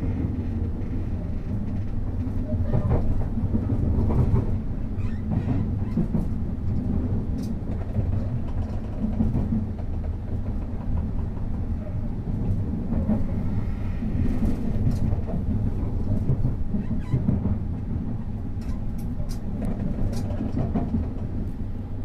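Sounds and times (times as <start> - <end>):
low rumble of train wheels: 0.0 - 22.0.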